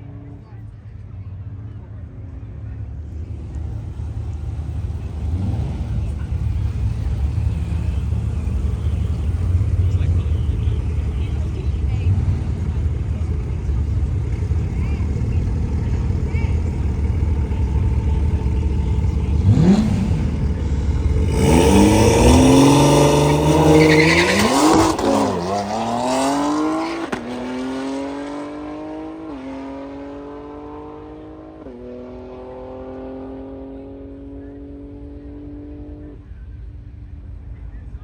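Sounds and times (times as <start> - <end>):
car engine revving and accelerating: 3.0 - 36.3.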